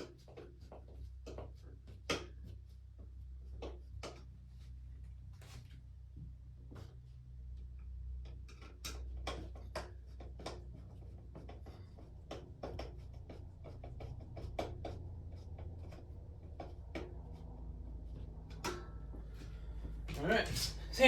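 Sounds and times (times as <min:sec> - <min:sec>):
light clicks taps and scratches: 0:00.0 - 0:20.8.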